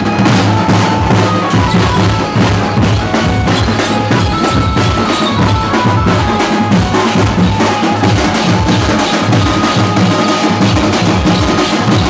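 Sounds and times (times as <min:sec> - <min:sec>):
drum band playing fast rhythm: 0:00.0 - 0:12.0.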